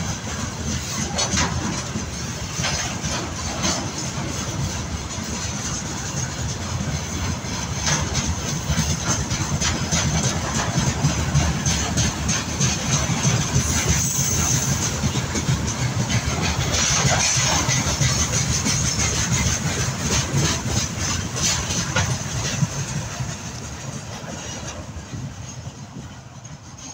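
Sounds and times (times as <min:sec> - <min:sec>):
freight train rumbling past: 0:00.0 - 0:26.9
wheels clacking over rail joints: 0:00.0 - 0:26.9.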